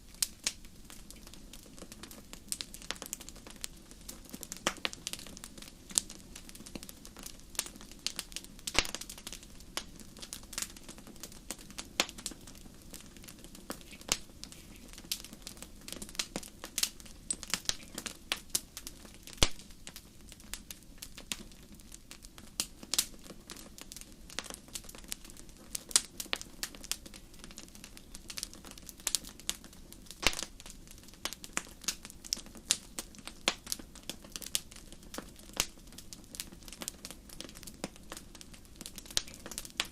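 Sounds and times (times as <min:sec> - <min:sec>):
fire crackling in a fireplace: 0:00.0 - 0:39.9
low flame noise: 0:00.0 - 0:39.9.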